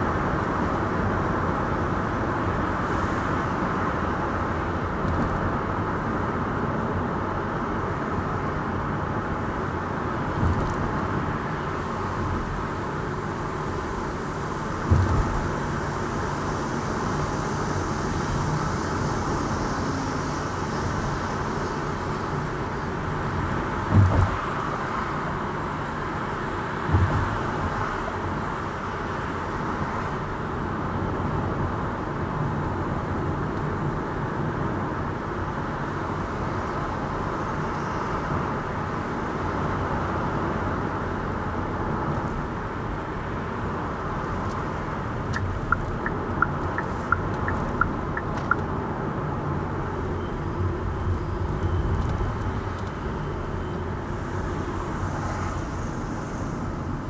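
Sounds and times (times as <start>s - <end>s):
car road noise and engine hum: 0.0s - 57.0s.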